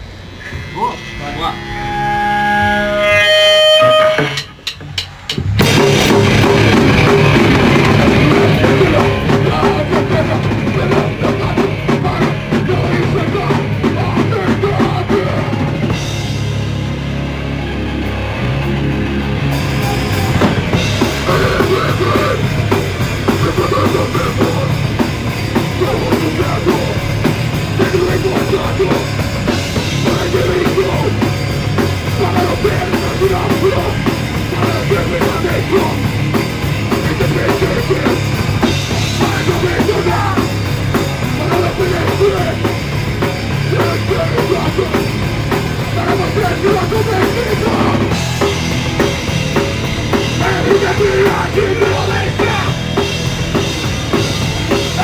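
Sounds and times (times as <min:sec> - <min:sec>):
live rock band playing: 0:00.1 - 0:55.0.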